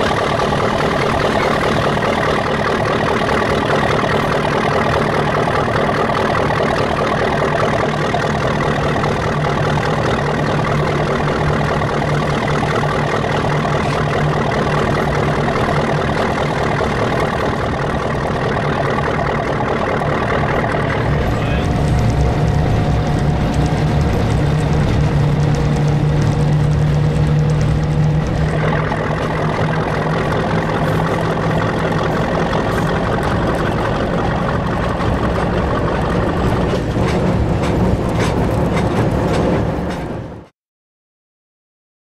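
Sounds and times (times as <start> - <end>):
diesel locomotive engine chugging: 0.0 - 40.5.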